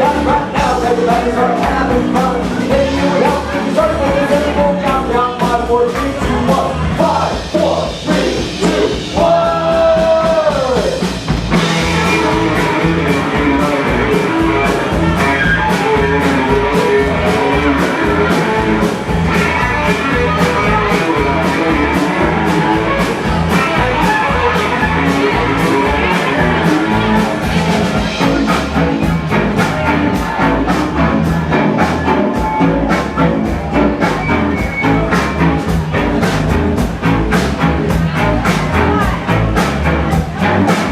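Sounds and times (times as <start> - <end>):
rock band instrumental: 0.0 - 40.9.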